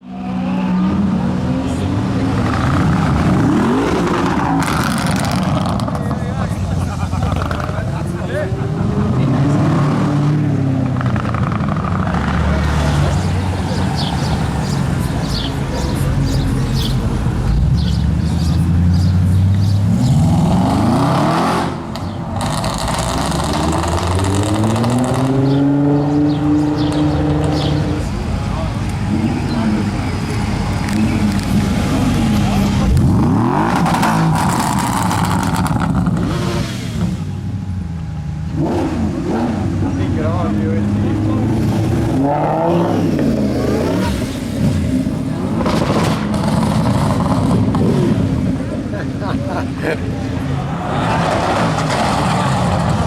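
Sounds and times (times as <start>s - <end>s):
car engine accelerating hard: 0.1s - 53.0s.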